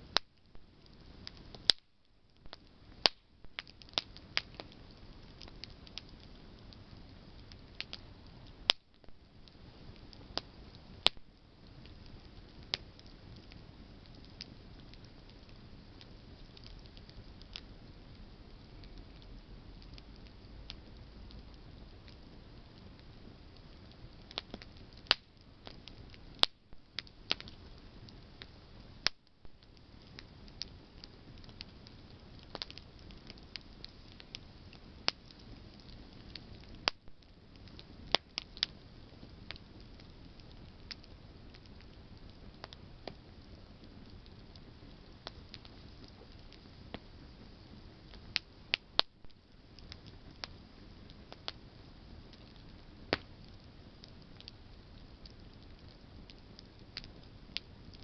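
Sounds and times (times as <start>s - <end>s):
campfire crackling: 0.0s - 58.0s
sharp pops of fire: 0.1s - 51.6s, 52.2s - 58.0s.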